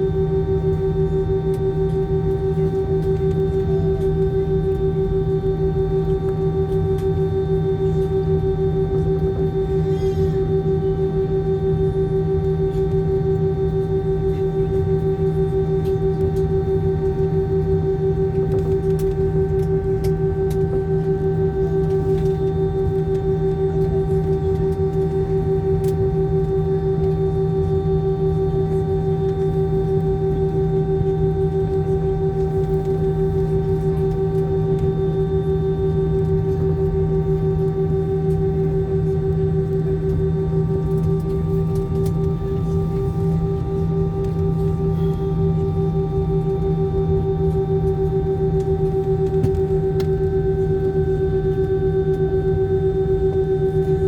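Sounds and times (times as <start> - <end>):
airplane engines droning in cabin: 0.0 - 54.0.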